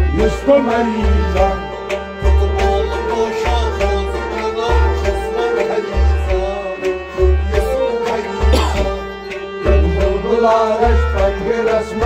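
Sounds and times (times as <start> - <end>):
deep drum beats: 0.0 - 7.8, 8.4 - 11.4
harmonium: 0.0 - 12.0
man singing ornamented line: 0.0 - 12.0.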